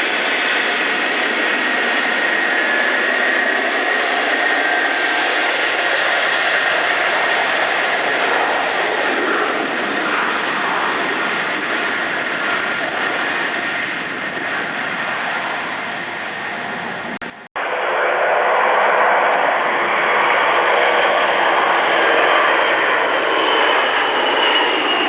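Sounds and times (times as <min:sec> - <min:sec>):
jet engines rushing with whine: 0:00.0 - 0:25.0.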